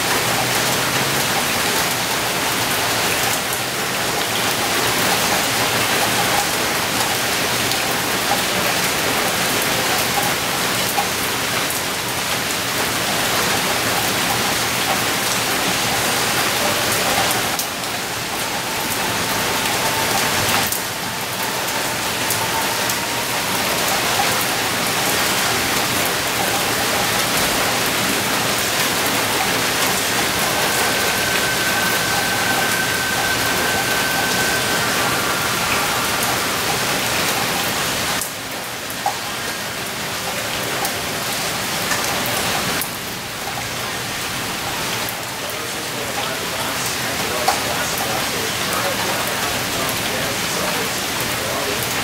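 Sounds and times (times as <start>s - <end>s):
heavy rain on leaves: 0.0s - 52.0s.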